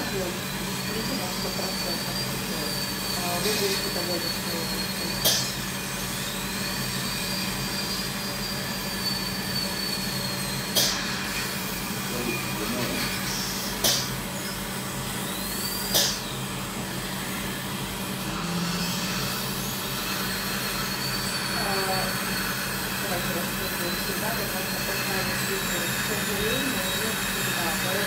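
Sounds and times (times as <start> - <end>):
dental drill whining: 0.0 - 28.0.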